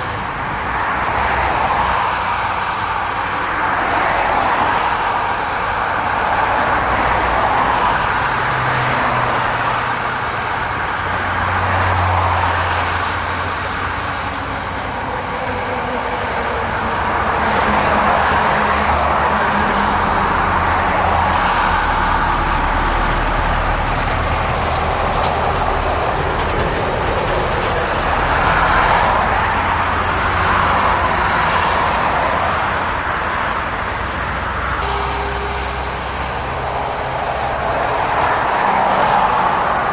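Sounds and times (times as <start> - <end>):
low hum of lorry engines: 0.0 - 39.9
tyre roar of passing vehicles: 0.0 - 39.9.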